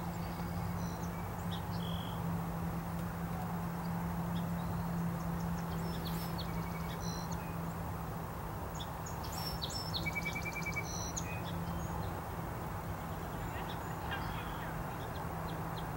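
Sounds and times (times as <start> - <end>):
small birds chirping: 0.0 - 2.3, 3.0 - 15.9
outdoor background rush: 0.0 - 15.9.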